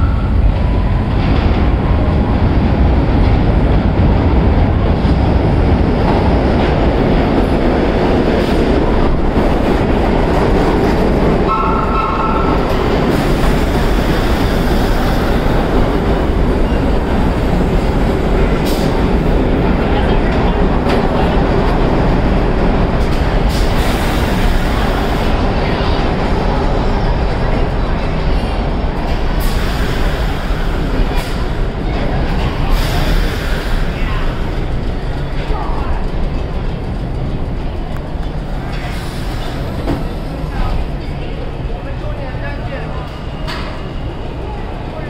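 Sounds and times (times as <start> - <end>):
subway train rumbling: 0.0 - 45.0
wheels clattering on rails: 0.5 - 41.3.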